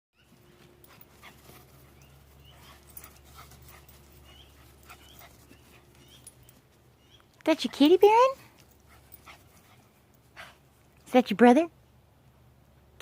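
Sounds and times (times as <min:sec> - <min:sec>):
low steady hum: 0:00.2 - 0:13.0.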